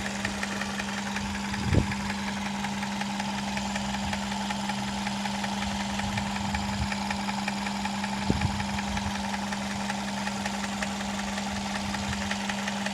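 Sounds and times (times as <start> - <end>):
car engine idling: 0.0 - 12.9
engine knock: 0.0 - 12.9
fast even engine ticking: 0.0 - 12.9.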